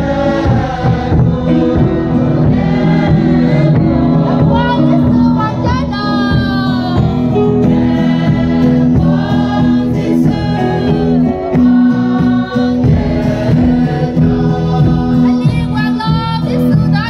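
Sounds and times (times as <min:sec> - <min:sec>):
choir singing a hymn: 0:00.0 - 0:17.0
strummed acoustic guitar: 0:00.0 - 0:17.0.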